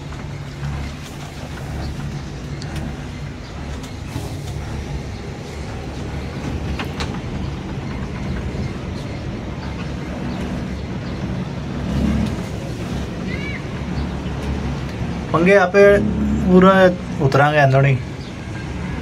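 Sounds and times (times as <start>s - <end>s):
cable car cabin rumble: 0.0s - 19.0s.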